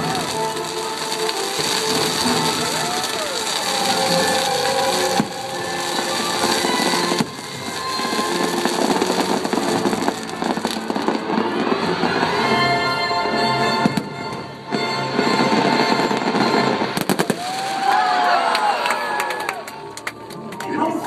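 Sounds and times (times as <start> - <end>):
fireworks crackling and popping: 0.0 - 21.0
show music: 0.0 - 21.0.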